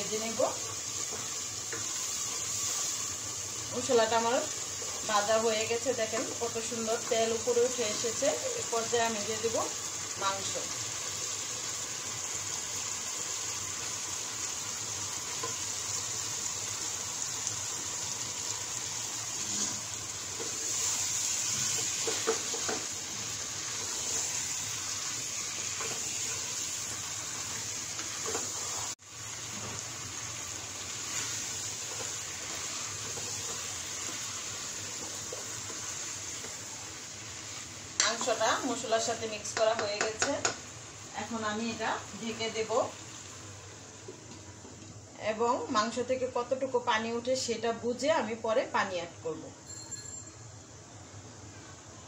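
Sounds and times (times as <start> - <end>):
meat sizzling in oil: 0.0 - 44.7.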